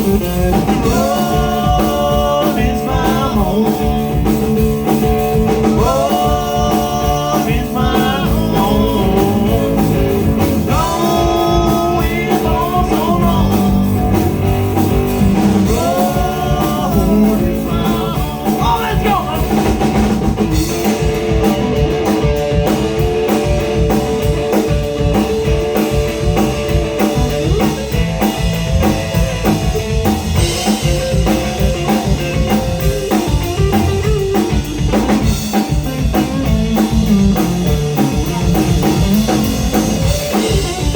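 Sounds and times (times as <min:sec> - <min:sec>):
live blues-rock band playing: 0:00.0 - 0:40.9.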